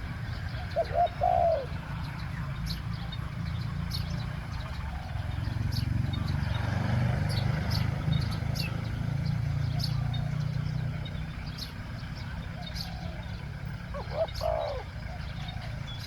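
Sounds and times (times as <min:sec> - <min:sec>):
vehicle engine passing: 0:00.0 - 0:16.0.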